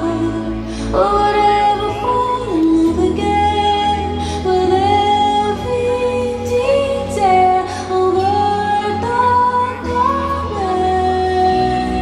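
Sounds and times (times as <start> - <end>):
live pop band playing: 0.0 - 12.0
woman singing: 0.0 - 12.0.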